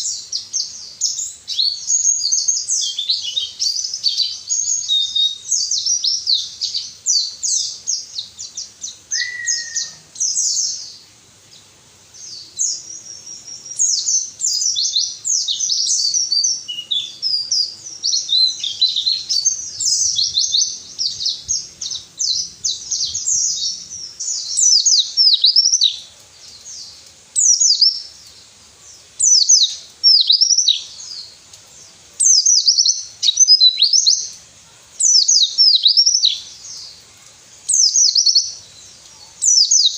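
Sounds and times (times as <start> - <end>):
small bird twittering song: 0.0 - 34.4, 35.0 - 39.9.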